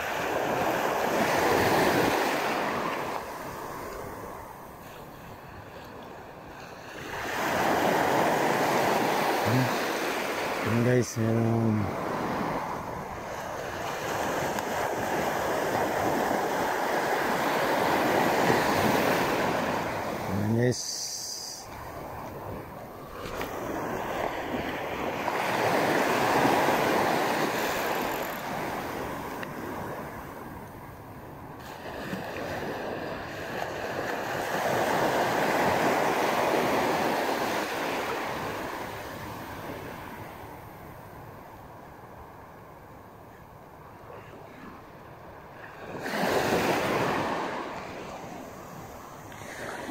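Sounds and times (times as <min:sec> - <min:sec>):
small waves breaking: 0:00.0 - 0:49.9.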